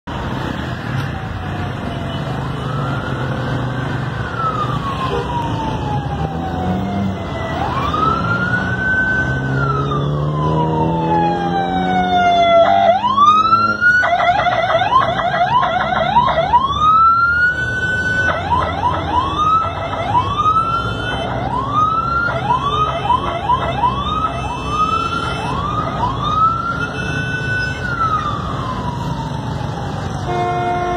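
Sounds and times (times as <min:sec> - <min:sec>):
city traffic: 0:00.0 - 0:30.9
ambulance siren wailing and yelping: 0:00.2 - 0:30.9.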